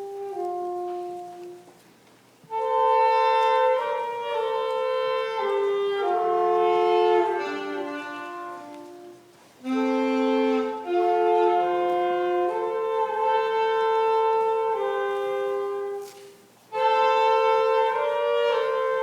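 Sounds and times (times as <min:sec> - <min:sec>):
wind instruments in harmony: 0:00.0 - 0:01.9, 0:02.5 - 0:19.0.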